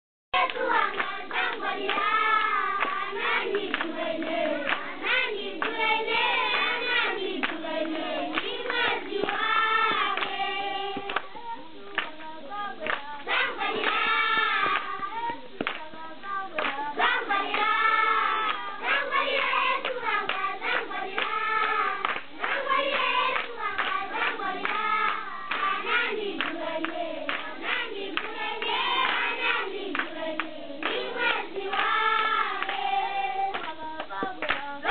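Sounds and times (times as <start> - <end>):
hands clapping: 0.4 - 11.3, 11.9 - 15.9, 16.5 - 34.9
children singing together: 0.4 - 34.9.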